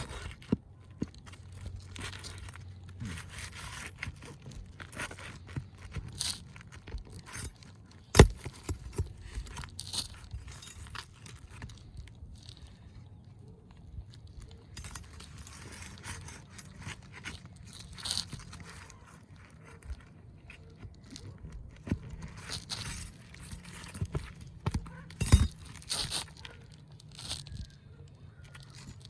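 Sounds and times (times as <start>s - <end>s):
tool scraping roof shingles: 0.0s - 12.8s, 14.5s - 27.6s.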